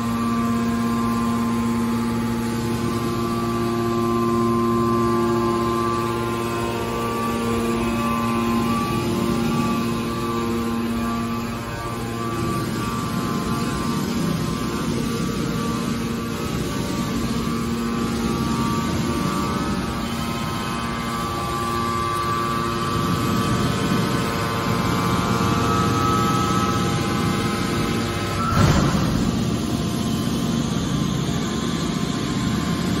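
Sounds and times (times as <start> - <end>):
hydraulic power unit humming: 0.0 - 33.0
motor and pump whining: 0.0 - 33.0.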